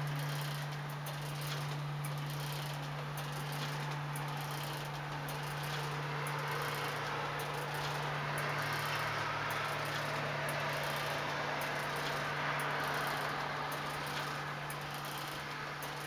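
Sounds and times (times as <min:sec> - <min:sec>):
faint regular clicks: 0:00.0 - 0:16.0.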